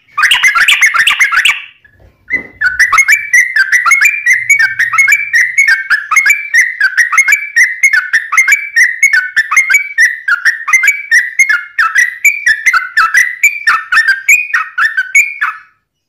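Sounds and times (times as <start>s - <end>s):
bird chattering whistled notes: 0.0s - 15.8s.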